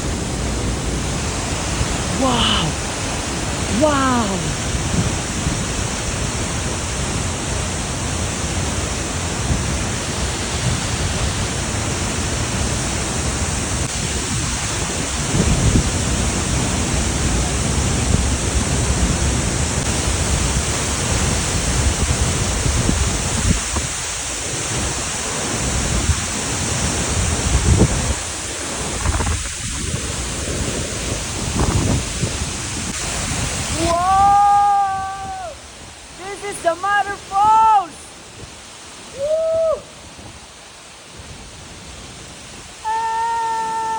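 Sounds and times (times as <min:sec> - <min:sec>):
wind on microphone: 0:00.0 - 0:36.3, 0:38.1 - 0:43.9
waterfall roaring: 0:00.0 - 0:43.9.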